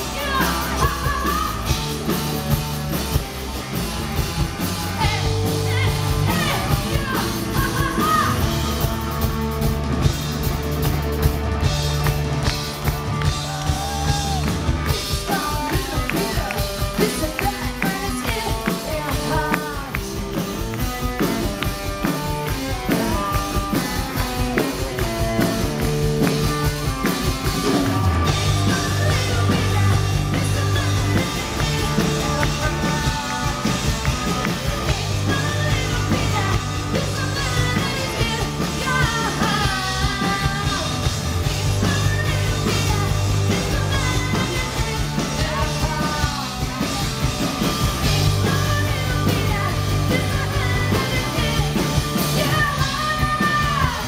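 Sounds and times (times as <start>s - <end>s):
woman singing: 0.0s - 1.8s, 4.9s - 8.5s, 13.8s - 26.9s, 27.6s - 54.0s
drums: 0.0s - 54.0s
electric guitar: 0.0s - 54.0s.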